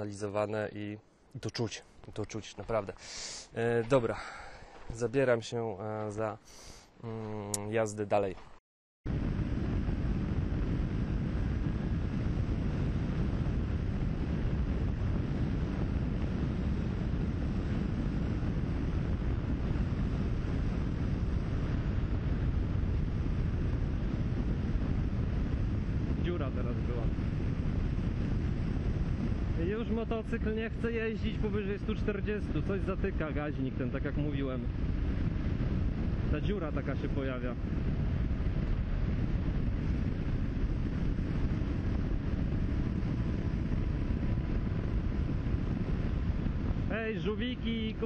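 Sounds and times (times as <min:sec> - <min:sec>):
wind buffeting microphone: 0:07.2 - 0:48.0
motorcycle running noise: 0:09.1 - 0:48.0.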